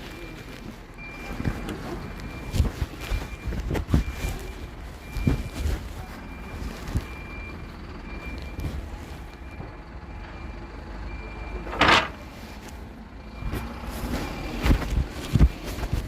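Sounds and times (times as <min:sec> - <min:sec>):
reversing alarm beeping: 0:00.0 - 0:12.2, 0:13.1 - 0:14.7
vehicle engine running low: 0:00.0 - 0:16.0.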